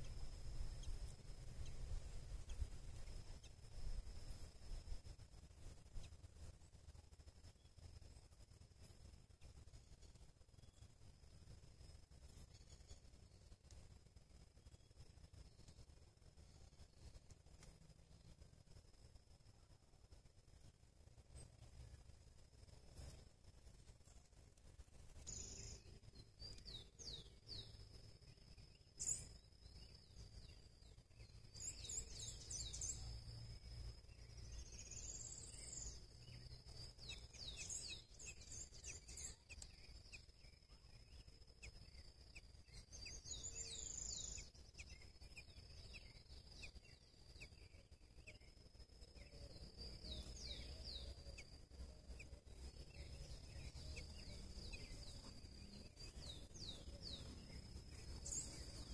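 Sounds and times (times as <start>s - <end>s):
faint bird chirps: 0.0s - 58.9s.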